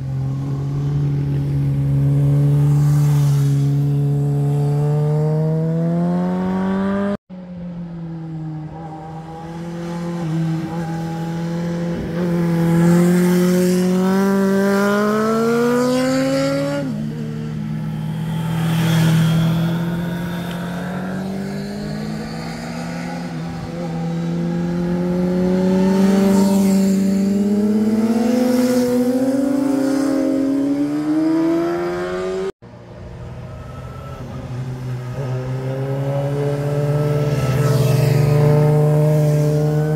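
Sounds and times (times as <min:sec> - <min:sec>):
motorcycles accelerating: 0:00.0 - 0:39.9.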